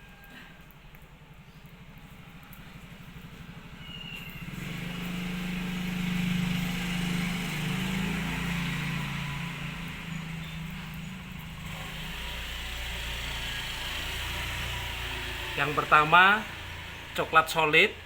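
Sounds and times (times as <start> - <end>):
vehicle engine pulsing drone: 0.0 - 18.0.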